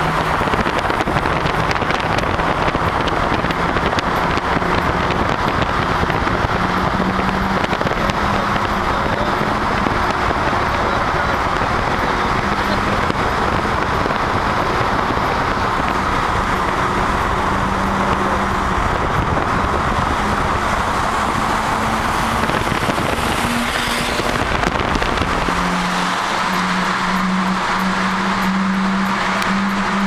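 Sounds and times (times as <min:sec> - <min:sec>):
car engine cruising: 0:00.0 - 0:30.0
road noise: 0:00.0 - 0:30.0
wind noise: 0:00.0 - 0:30.0.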